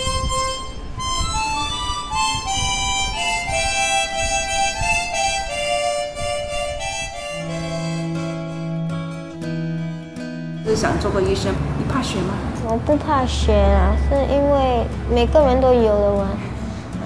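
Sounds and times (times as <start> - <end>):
harmonicas playing slow melody: 0.0 - 14.6.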